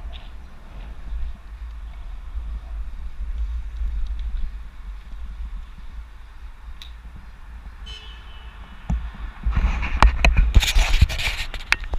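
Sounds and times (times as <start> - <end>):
wind rumble on microphone: 0.0 - 11.9.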